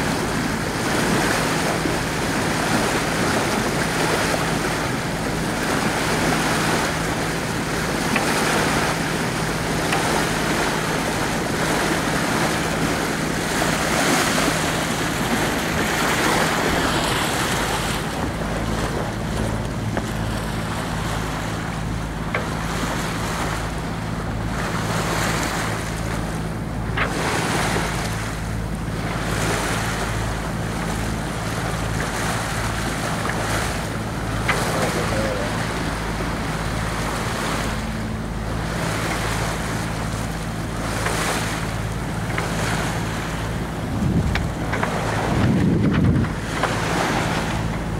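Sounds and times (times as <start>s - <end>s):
boat engine running: 0.0s - 47.9s
water rushing past hull: 0.0s - 47.9s
wind buffeting microphone: 0.0s - 47.9s.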